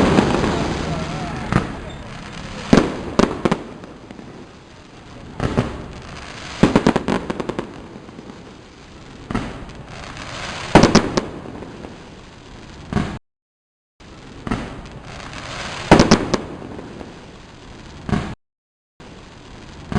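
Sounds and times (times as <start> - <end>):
firework bangs: 0.0 - 13.2, 14.0 - 18.4, 19.0 - 19.9
firework crackling pops: 0.0 - 13.2, 14.0 - 18.4, 19.0 - 19.9.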